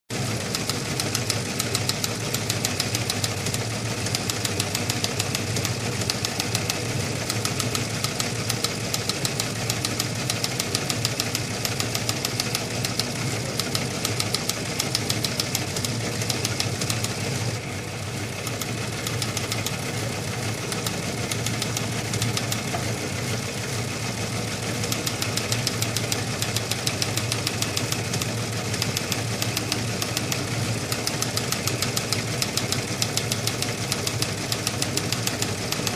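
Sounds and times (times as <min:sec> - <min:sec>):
teletype machine clattering: 0:00.1 - 0:35.9.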